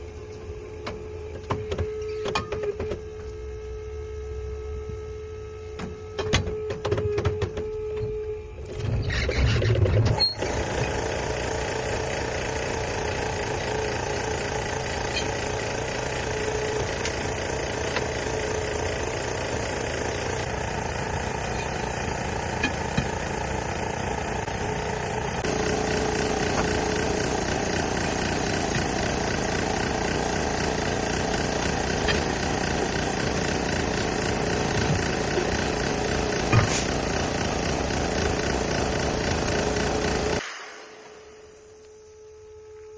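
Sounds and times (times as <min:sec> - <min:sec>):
engine running: 0:00.0 - 0:42.0.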